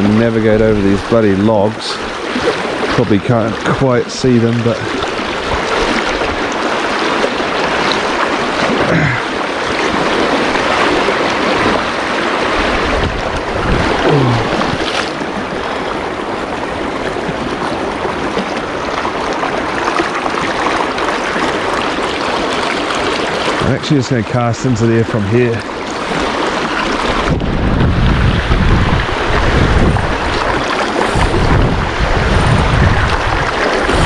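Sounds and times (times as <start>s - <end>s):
water rushing over stones: 0.0s - 34.0s.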